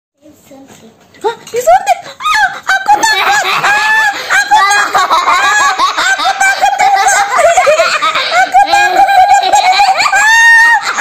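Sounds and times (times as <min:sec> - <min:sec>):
girl laughing hard: 0:02.0 - 0:11.0.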